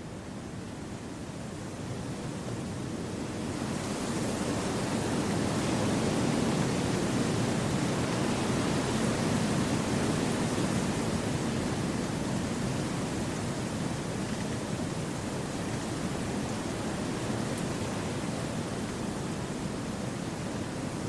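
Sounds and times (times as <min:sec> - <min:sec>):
wind rushing through trees: 0:00.2 - 0:21.0.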